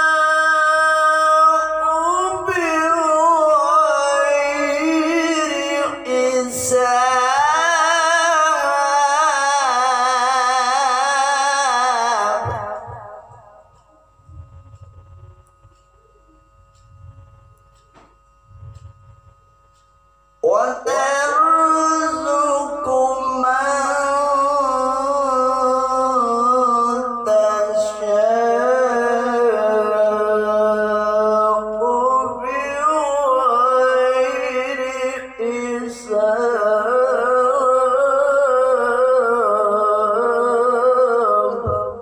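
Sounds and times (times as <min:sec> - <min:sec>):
man reciting melodically: 0:00.0 - 0:14.1, 0:20.4 - 0:42.0.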